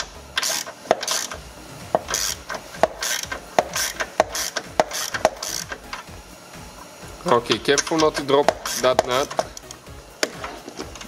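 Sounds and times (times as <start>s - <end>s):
ratchet pawl clicking: 0.0s - 6.1s, 7.3s - 11.0s.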